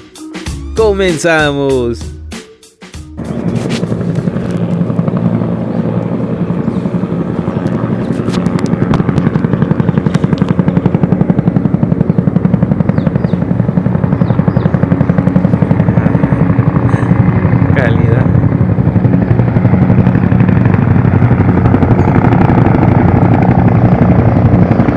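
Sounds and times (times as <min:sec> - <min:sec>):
helicopter rotor beating: 0:03.1 - 0:24.9.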